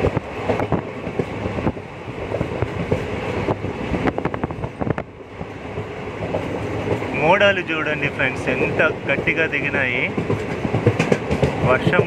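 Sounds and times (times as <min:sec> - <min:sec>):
wheels knocking on rails: 0:00.0 - 0:07.5, 0:08.5 - 0:12.0
train rumble from inside coach: 0:00.0 - 0:12.0.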